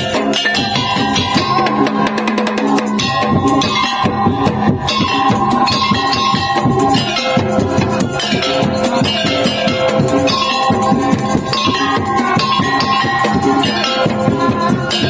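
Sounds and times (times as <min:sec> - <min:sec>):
fast beaten percussion ensemble: 0:00.0 - 0:15.0
sustained melody notes: 0:00.0 - 0:15.0.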